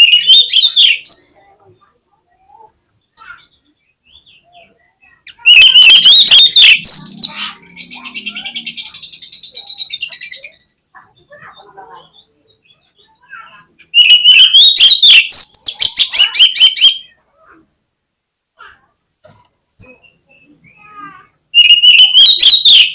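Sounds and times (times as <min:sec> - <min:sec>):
bird singing: 0:00.0 - 0:02.0, 0:02.9 - 0:17.2, 0:19.8 - 0:22.9.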